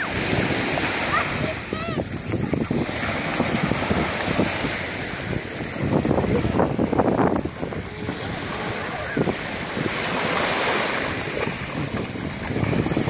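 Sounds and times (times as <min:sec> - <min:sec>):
children splashing in water: 0:00.0 - 0:13.0
waves washing onto pebbles: 0:00.0 - 0:13.0
wind buffeting microphone: 0:00.0 - 0:13.0.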